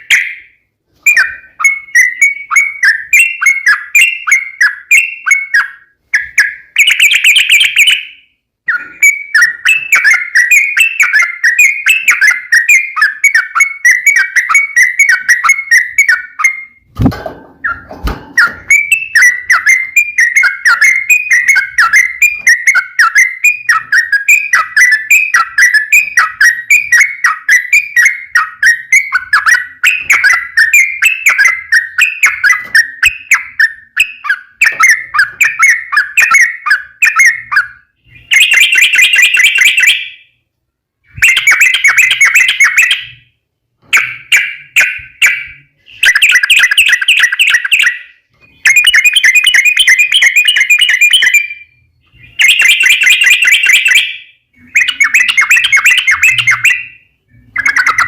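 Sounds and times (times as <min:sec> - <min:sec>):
bird singing: 0:00.0 - 0:16.9, 0:17.6 - 0:40.4, 0:41.0 - 0:58.0.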